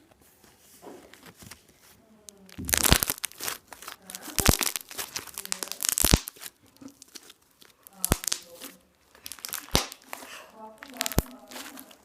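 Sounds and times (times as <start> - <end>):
foam slime crackling and popping: 1.1 - 12.0.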